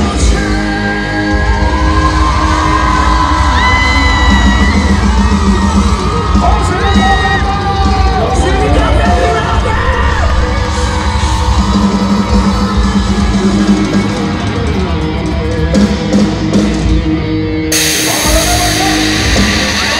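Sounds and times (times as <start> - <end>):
crowd cheering: 0.0 - 17.2, 17.8 - 19.9
rock band playing: 0.0 - 19.9.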